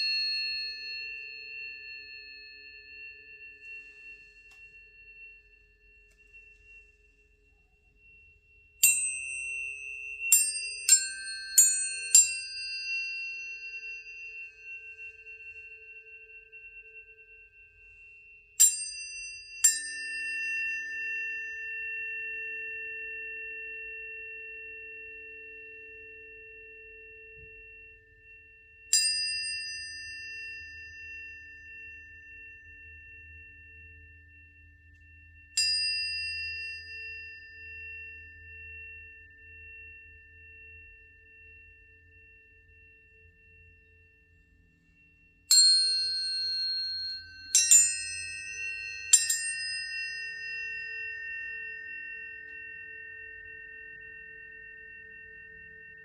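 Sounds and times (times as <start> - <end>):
tuning fork ringing tone: 0.0 - 56.0.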